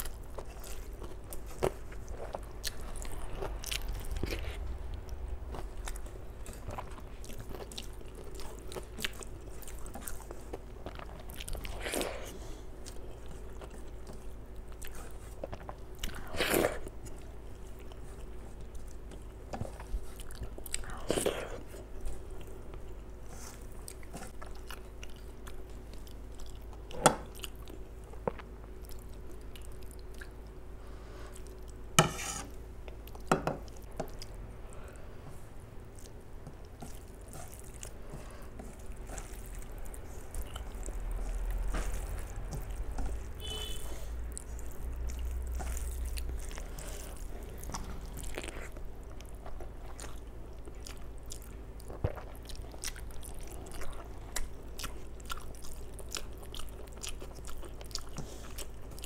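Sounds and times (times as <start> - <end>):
person chewing food: 0.0 - 32.0, 32.6 - 59.0.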